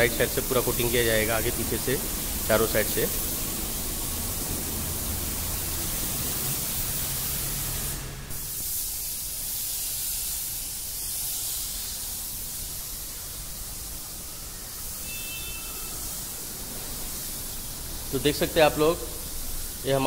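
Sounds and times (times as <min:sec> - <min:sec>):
paint spray gun hissing: 0:00.0 - 0:20.0.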